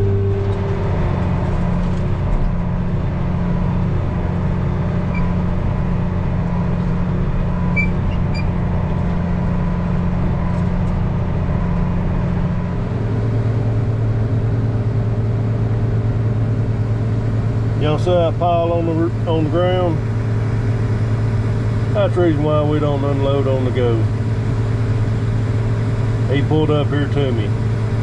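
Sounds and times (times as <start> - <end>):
diesel engine of farm machinery: 0.0 - 28.0.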